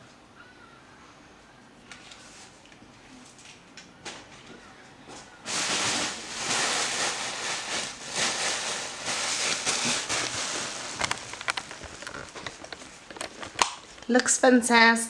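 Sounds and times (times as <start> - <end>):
packaging rustling and crinkling: 2.0 - 14.5.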